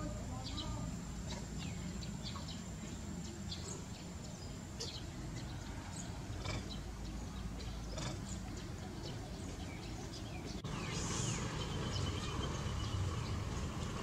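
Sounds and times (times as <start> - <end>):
high chirping calls: 0.0 - 14.0
low steady rumble: 0.0 - 14.0.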